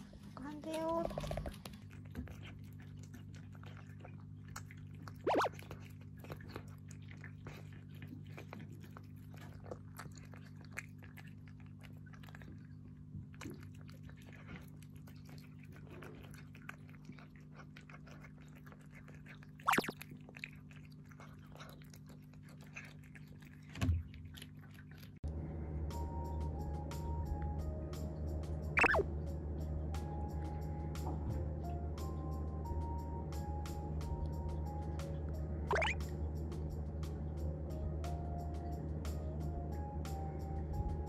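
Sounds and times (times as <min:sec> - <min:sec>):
cat chewing and crunching food: 0:00.0 - 0:41.0.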